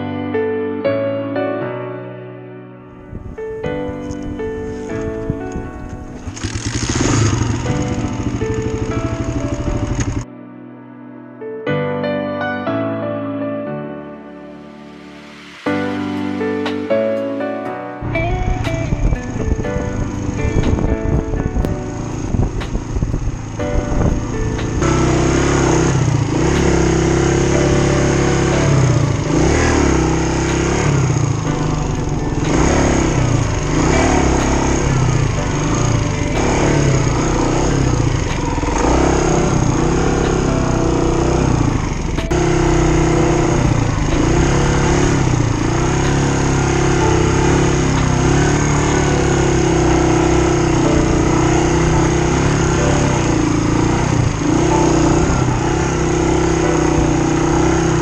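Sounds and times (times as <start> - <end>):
motorcycle engine revving: 3.2 - 10.2, 18.0 - 58.0.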